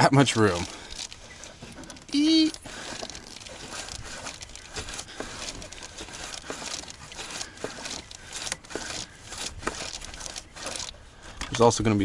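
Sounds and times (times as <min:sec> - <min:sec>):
hands and tools scraping: 0:00.0 - 0:12.0.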